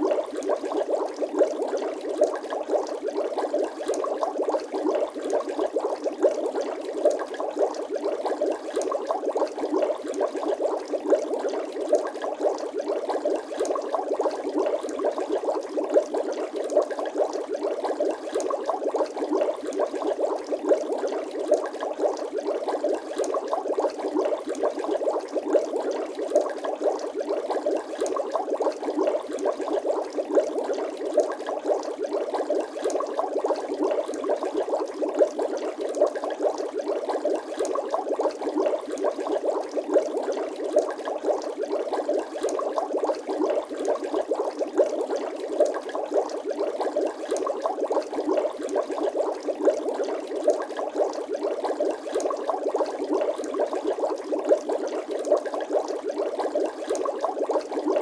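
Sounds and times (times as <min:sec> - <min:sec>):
water bubbling and gurgling: 0:00.0 - 0:58.0.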